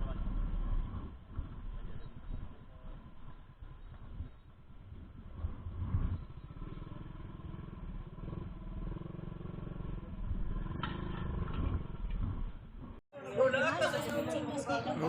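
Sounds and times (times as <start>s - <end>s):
vehicle engine pulsing: 0.0s - 13.0s.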